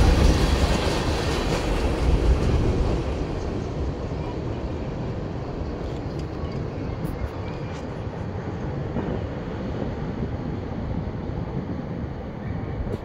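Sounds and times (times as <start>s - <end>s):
train cars rumbling on rails: 0.0s - 13.0s.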